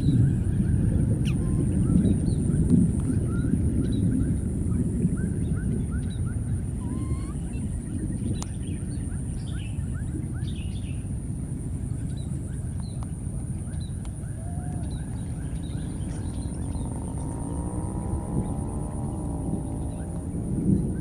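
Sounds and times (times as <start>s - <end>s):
small birds chirping: 0.0s - 4.4s, 5.4s - 11.1s, 11.9s - 21.0s
steady low rumbling noise: 0.0s - 21.0s.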